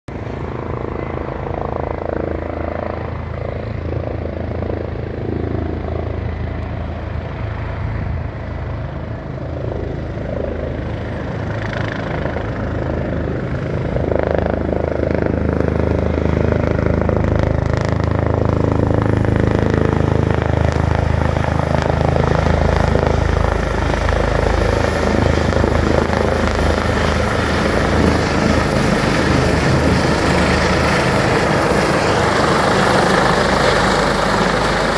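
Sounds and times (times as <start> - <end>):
helicopter rotor and engine: 0.1 - 34.9.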